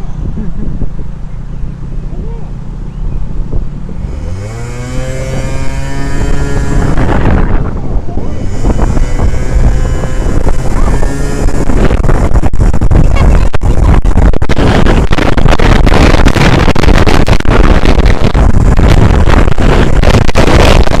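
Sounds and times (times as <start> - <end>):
low engine drone: 0.0 - 21.0
wind buffeting microphone: 0.0 - 21.0.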